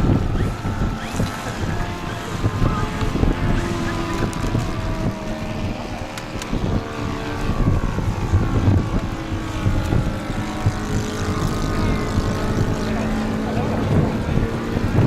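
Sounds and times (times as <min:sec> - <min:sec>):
model plane motor whine: 0:00.0 - 0:15.0
wind buffeting microphone: 0:00.0 - 0:15.0.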